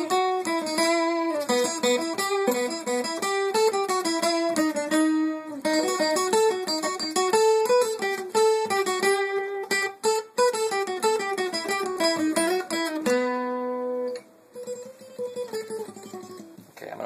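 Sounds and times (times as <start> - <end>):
guitar single-note melody: 0.0 - 16.6.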